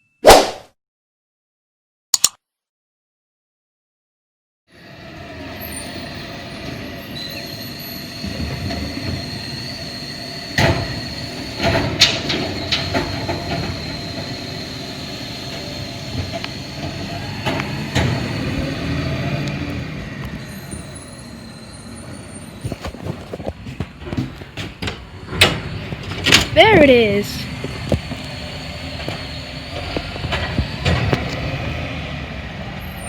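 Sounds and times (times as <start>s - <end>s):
garbage truck rumble: 4.7s - 33.0s.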